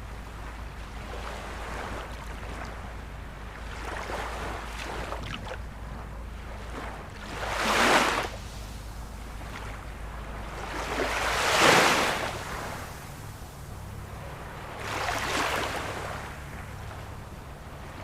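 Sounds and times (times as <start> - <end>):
low rumble of the sea: 0.0 - 18.0
waves breaking on shore: 0.0 - 18.0.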